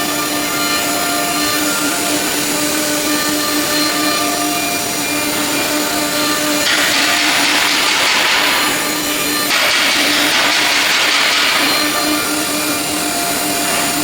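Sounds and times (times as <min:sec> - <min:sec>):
harsh hiss of bit cutting wood: 0:00.0 - 0:14.0
router spindle whining: 0:00.0 - 0:14.0.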